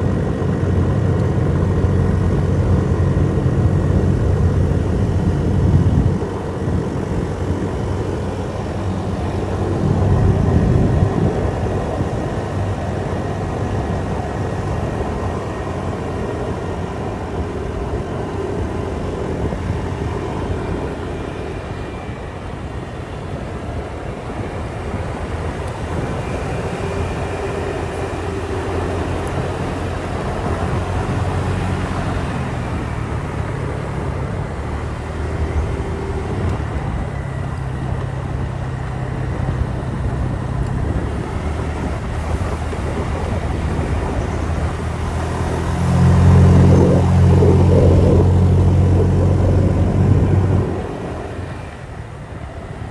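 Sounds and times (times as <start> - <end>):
heavy wind: 0.0 - 52.9
motorbike engine running: 0.0 - 52.9
road rumble: 0.0 - 52.9.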